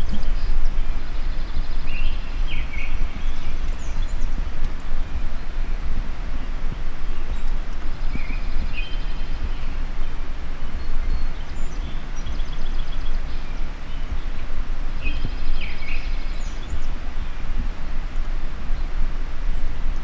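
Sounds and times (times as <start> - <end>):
songbirds singing trills: 0.0 - 20.0
steady low rumble: 0.0 - 20.0.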